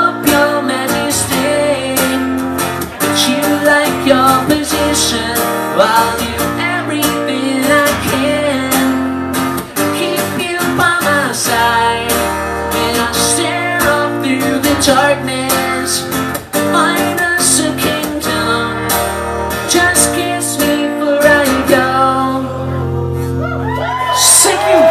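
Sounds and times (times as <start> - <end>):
acoustic guitar strumming: 0.0 - 23.4.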